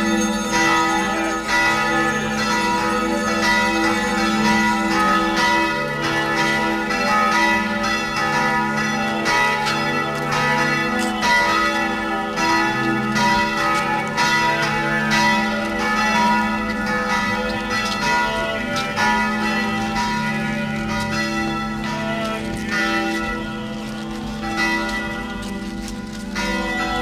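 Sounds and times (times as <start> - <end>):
church bells pealing: 0.0 - 27.0.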